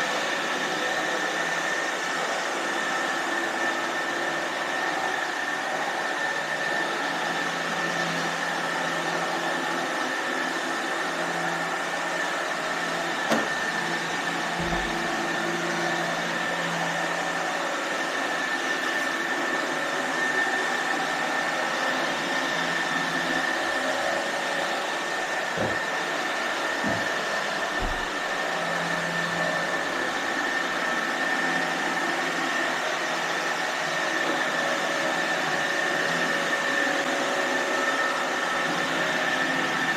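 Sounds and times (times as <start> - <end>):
robot vacuums whirring: 0.0 - 39.9.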